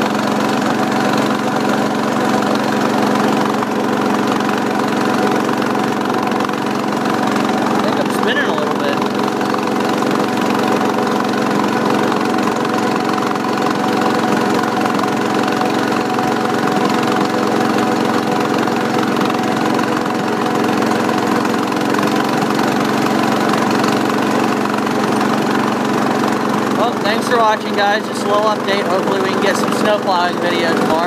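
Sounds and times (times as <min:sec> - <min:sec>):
garden tractor engine running: 0:00.0 - 0:31.0.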